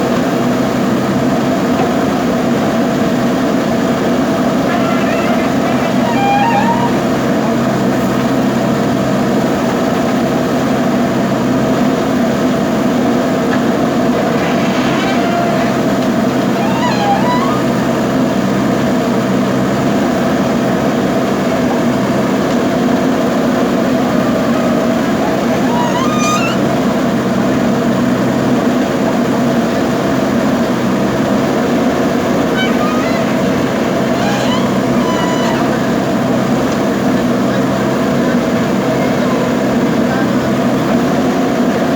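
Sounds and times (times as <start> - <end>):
backhoe diesel engine drone: 0.0 - 41.9.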